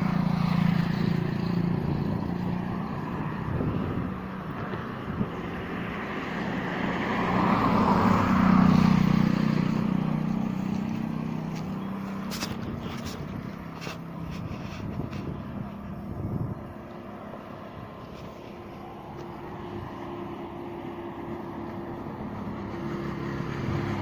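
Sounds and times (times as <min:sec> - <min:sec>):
engine passing by: 0:00.0 - 0:24.0.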